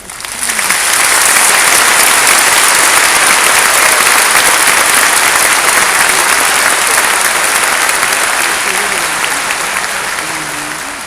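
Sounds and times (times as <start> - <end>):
large audience applauding: 0.0 - 11.0.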